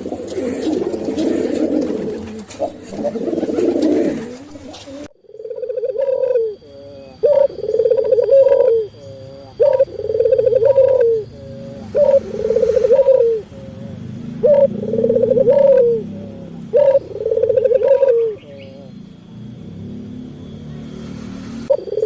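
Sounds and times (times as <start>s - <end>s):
dove cooing: 0.0s - 19.1s, 21.6s - 22.0s.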